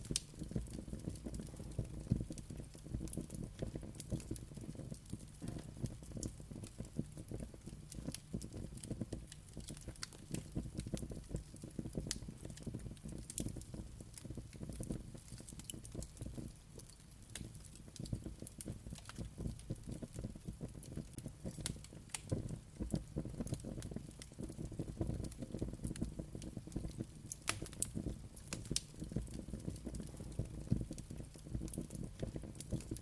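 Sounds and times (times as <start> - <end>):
fire popping and snapping: 0.0 - 33.0
low rumble of flames: 0.0 - 33.0.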